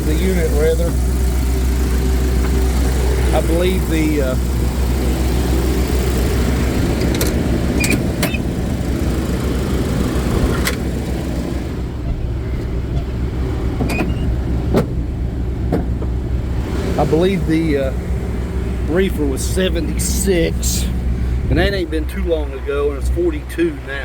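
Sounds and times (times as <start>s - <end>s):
refrigeration unit humming: 0.0s - 24.0s.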